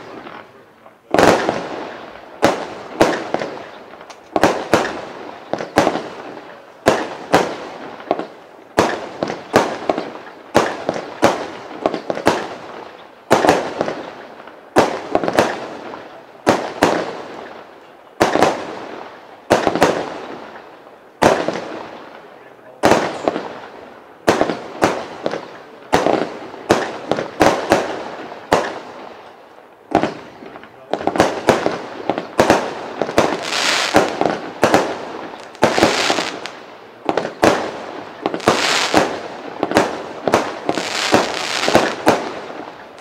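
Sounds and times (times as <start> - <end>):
fireworks aerial bursts: 0.0 - 43.0.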